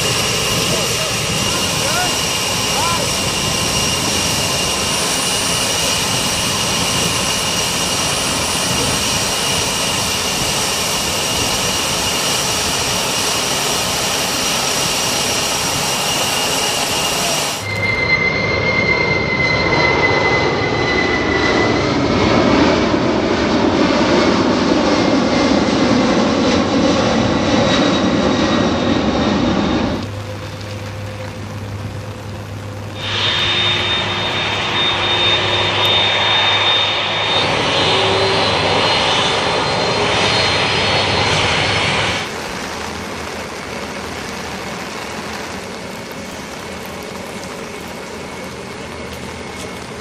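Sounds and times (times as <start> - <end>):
jet engines roaring: 0.0 - 50.0
jet turbine whine: 0.0 - 50.0.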